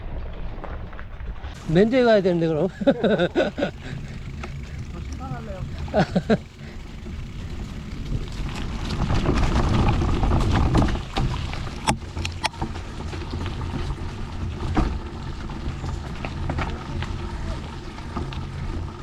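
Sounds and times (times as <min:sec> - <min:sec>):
mountain bike on rough trail: 0:00.0 - 0:19.0
wind rumble on microphone: 0:03.6 - 0:19.0.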